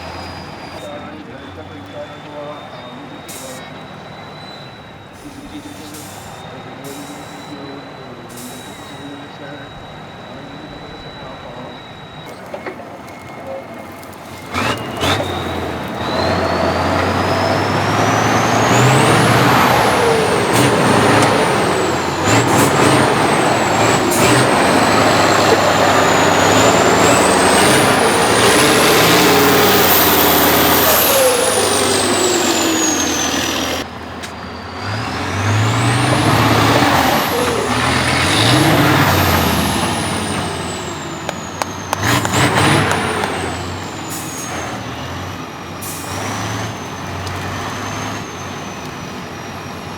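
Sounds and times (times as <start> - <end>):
high whistle: 0.0 - 44.9
diesel engine revving: 0.0 - 49.9.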